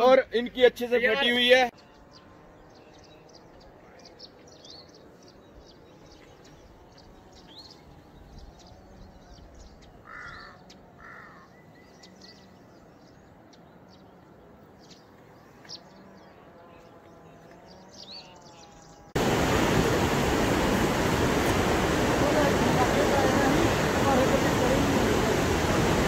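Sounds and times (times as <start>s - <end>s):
harsh bird calls: 0.0s - 26.0s
small birds chirping: 0.0s - 26.0s.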